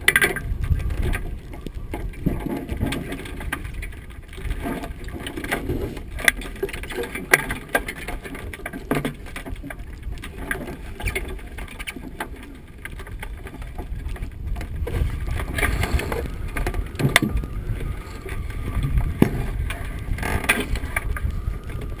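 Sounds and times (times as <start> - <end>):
low rumble of runners and wind: 0.0 - 22.0.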